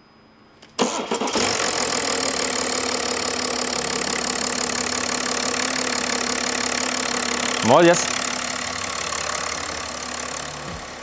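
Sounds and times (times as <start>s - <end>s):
diesel engine idling: 0.8s - 11.0s.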